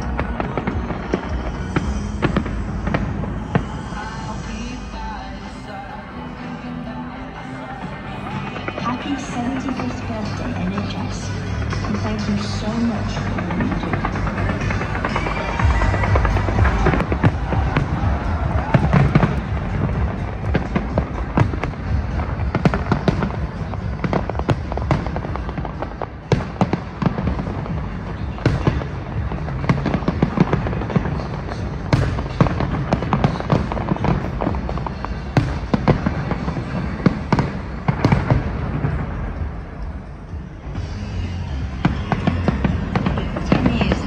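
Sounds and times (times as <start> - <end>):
fireworks bangs and crackles: 0.0 - 44.0
low rumble: 0.0 - 44.0
music: 0.0 - 44.0.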